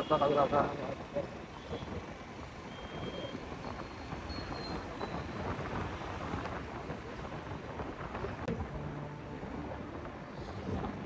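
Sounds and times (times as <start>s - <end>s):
wind buffeting microphone: 1.0s - 11.0s.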